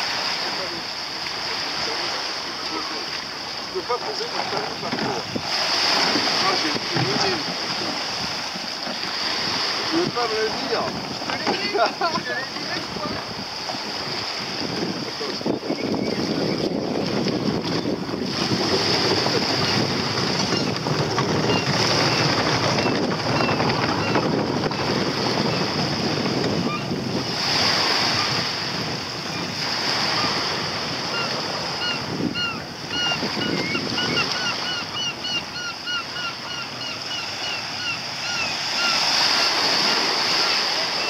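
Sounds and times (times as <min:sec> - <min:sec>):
wind on microphone: 0:03.2 - 0:41.0.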